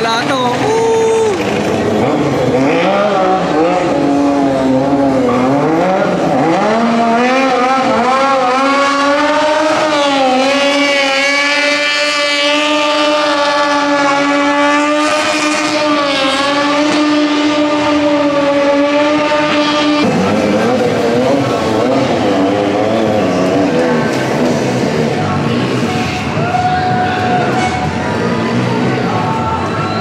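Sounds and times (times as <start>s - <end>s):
motorcycle engine revving high: 0.0s - 29.9s.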